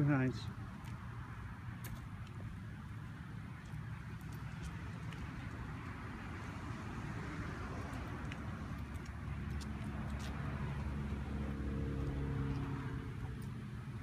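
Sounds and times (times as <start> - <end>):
road traffic rumble: 0.0 - 14.0
vehicle engine hum: 0.0 - 14.0.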